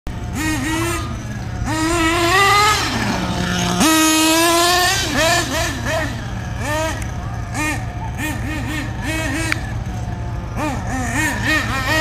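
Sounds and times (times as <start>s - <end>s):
rc car engine revving: 0.1s - 12.0s.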